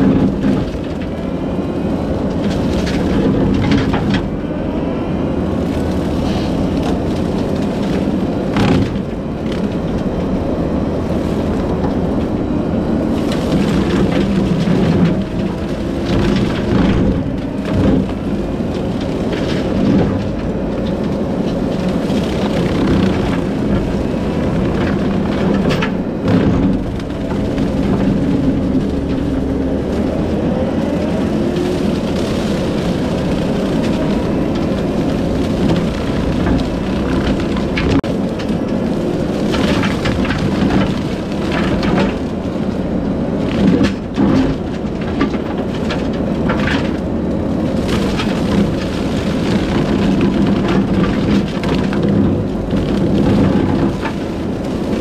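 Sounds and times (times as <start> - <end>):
diesel engine running under load: 0.0 - 55.0
wood cracking and snapping: 0.0 - 55.0.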